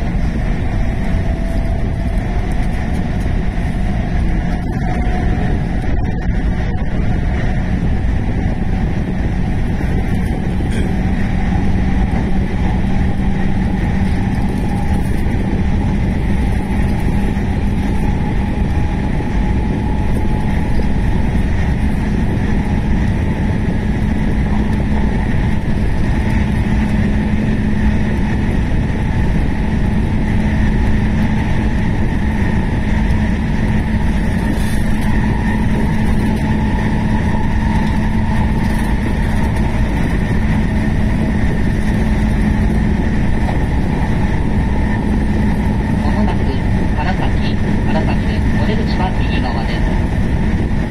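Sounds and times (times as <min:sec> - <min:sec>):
steady train hum: 0:00.0 - 0:50.9
train wheels rumbling on rail: 0:00.0 - 0:50.9.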